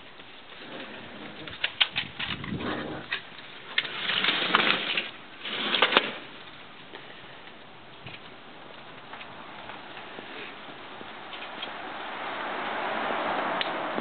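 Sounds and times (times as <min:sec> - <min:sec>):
leaves and stems rustling: 0:00.0 - 0:14.0.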